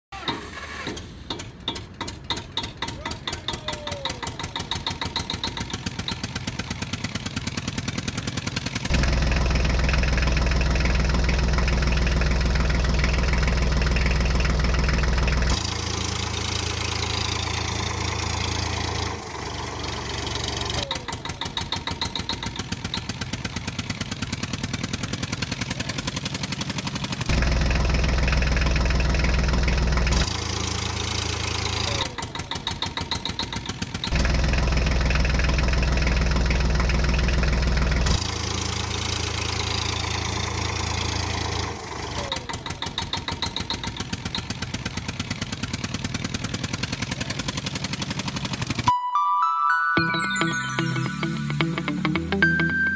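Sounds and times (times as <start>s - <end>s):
tractor engine idling: 0.2s - 48.9s.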